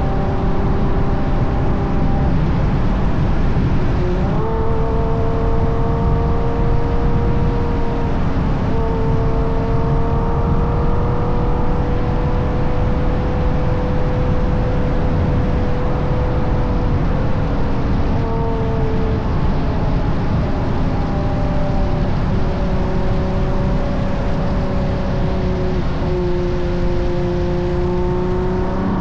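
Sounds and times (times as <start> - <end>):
car engine cruising: 0.0 - 29.0
road rumble: 0.0 - 29.0
wind noise: 0.0 - 29.0.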